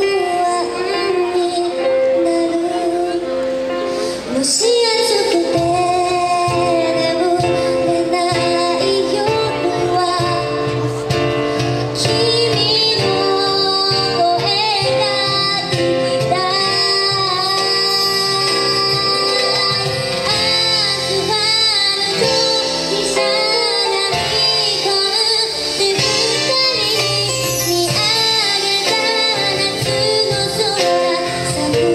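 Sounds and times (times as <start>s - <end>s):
band playing: 0.0s - 31.9s
woman singing a slow ballad: 0.0s - 31.9s.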